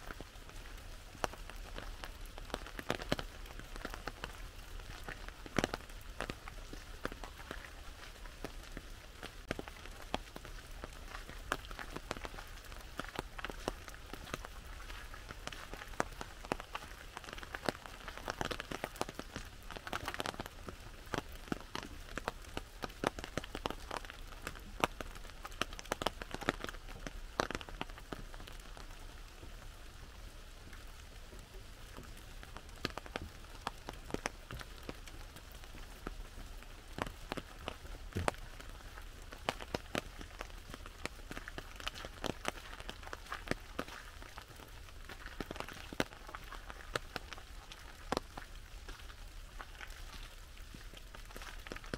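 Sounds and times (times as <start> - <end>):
raindrops tapping on umbrella: 0.0 - 51.9
steady hiss of rain: 0.0 - 51.9.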